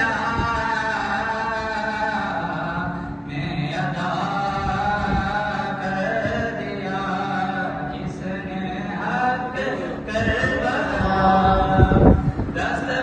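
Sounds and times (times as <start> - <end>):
men chanting through microphone: 0.0 - 13.0.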